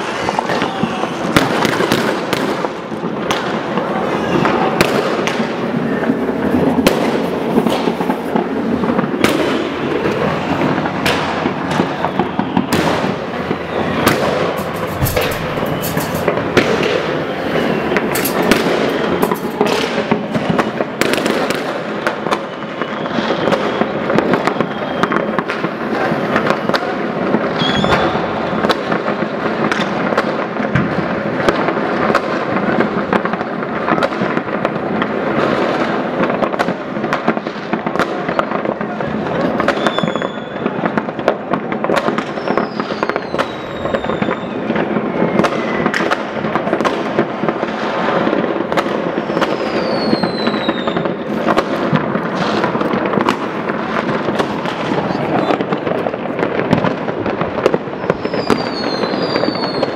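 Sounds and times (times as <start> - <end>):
firework whistles: 0.0 - 29.1, 38.0 - 38.8, 39.4 - 41.2, 41.9 - 48.2, 48.8 - 55.8, 56.8 - 59.9
fireworks and firecrackers crackling: 0.0 - 59.9.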